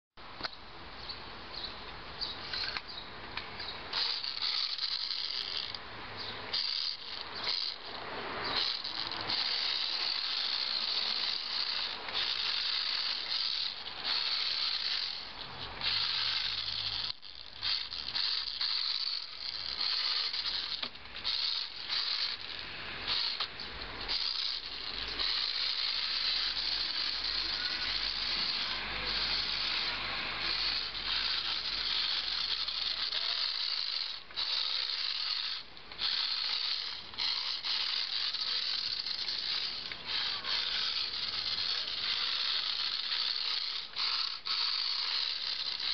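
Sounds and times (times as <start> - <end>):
toy car electric motor whirring: 2.4 - 45.9.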